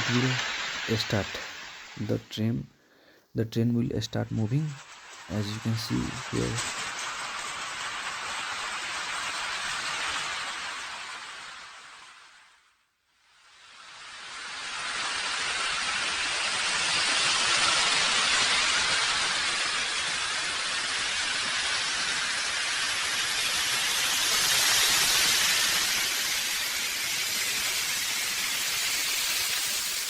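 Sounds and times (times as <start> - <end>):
model steam locomotive hissing: 0.0 - 12.7, 13.3 - 30.0.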